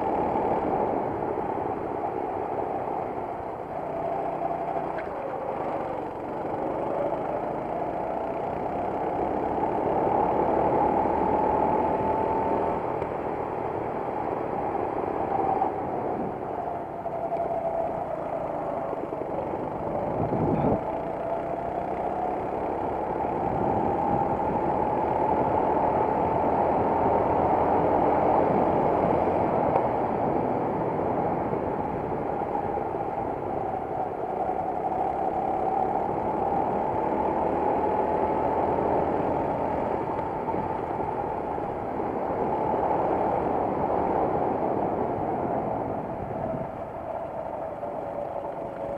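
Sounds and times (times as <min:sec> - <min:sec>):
kart engine revving: 0:02.4 - 0:48.9.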